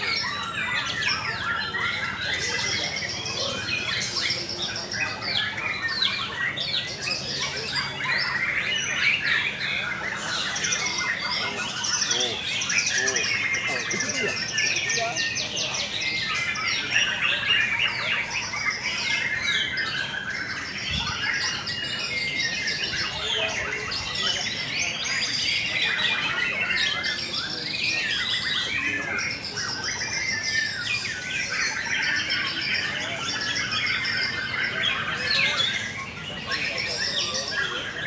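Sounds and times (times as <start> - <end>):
many songbirds singing: 0.0 - 38.0.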